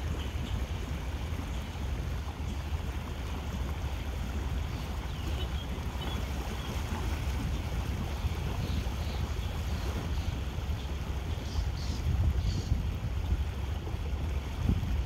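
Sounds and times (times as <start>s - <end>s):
boat engine rumble: 0.0s - 15.0s
wind buffeting microphone: 0.0s - 15.0s.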